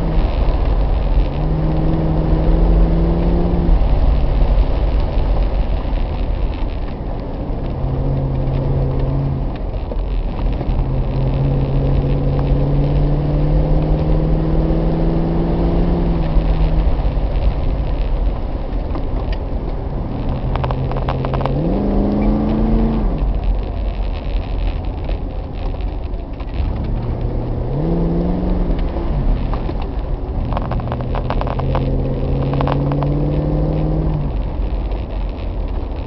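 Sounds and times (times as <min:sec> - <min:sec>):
car engine running: 0:00.0 - 0:36.0
road and tyre rumble: 0:00.0 - 0:36.0.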